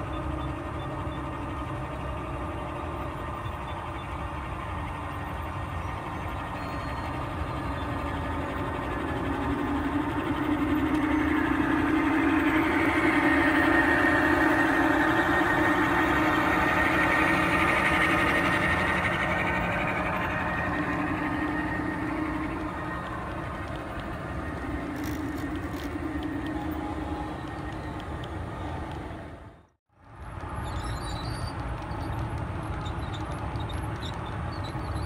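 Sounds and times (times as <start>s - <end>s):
model locomotives running on rails: 0.0s - 35.0s.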